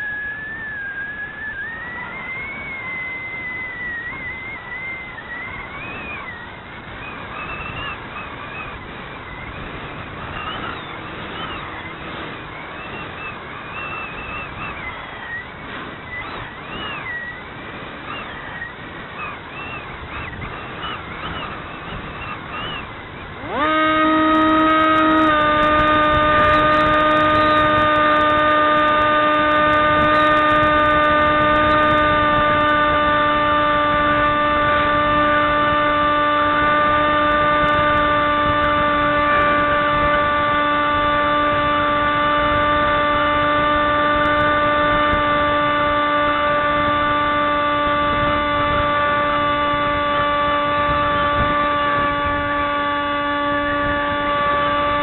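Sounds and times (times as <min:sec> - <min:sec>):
model aircraft motor whining: 0:00.0 - 0:55.0.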